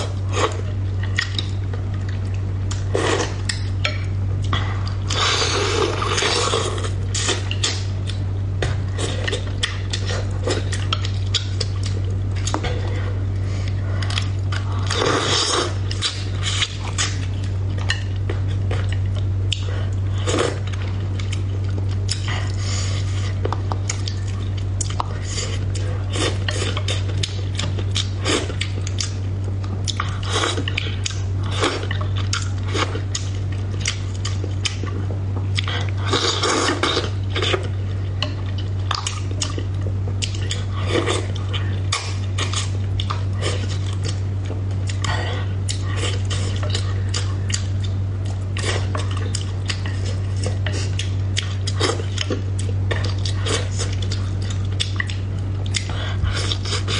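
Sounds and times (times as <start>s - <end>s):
person chewing: 0.0s - 56.9s
steady low hum: 0.0s - 56.9s.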